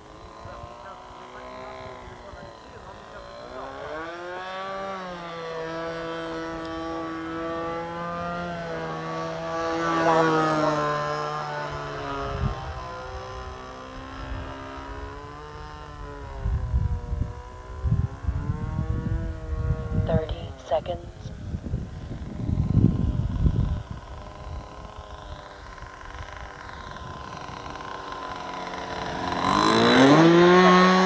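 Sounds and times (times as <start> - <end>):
model plane engine flying past: 0.0 - 31.0.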